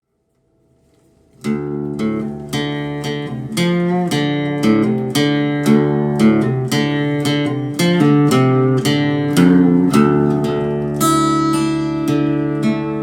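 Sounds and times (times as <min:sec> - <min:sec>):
acoustic guitar strumming chords: 0:00.8 - 0:13.0.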